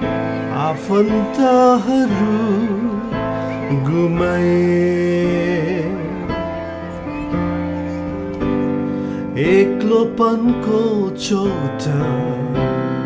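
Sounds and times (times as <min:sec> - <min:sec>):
person singing prayer song: 0:00.0 - 0:13.0.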